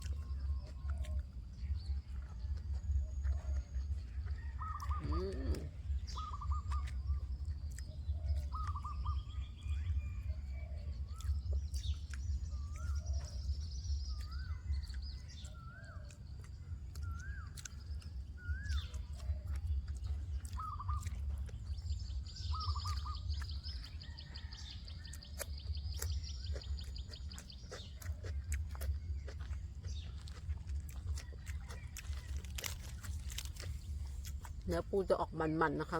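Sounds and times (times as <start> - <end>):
bird chirps: 0.0 - 35.9
low rumble: 0.0 - 35.9.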